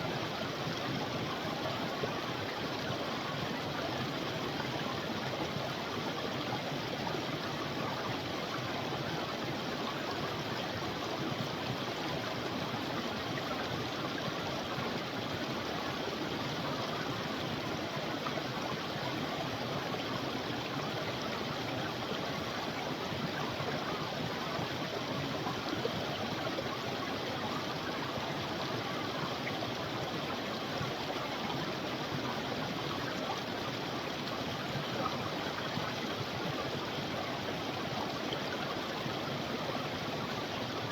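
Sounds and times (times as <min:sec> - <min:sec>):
creek water babbling: 0:00.0 - 0:40.9.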